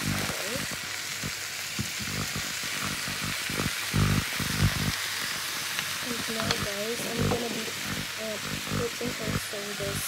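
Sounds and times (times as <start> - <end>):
vegetables sizzling in a frying pan: 0.0 - 10.0.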